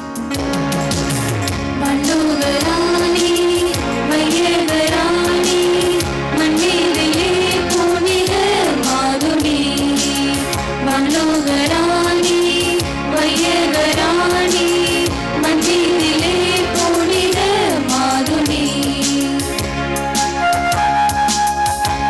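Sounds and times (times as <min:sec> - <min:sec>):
instrumental accompaniment: 0:00.0 - 0:22.0
person singing a hymn: 0:01.8 - 0:19.5.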